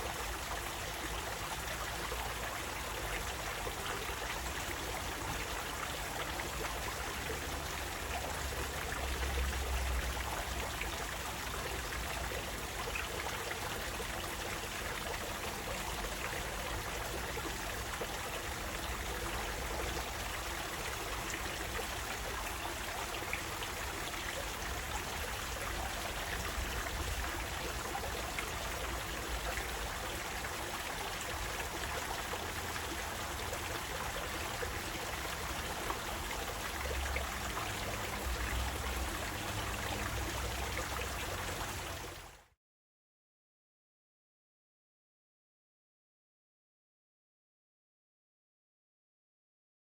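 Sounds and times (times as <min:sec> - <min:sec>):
running water rushing: 0:00.0 - 0:42.2.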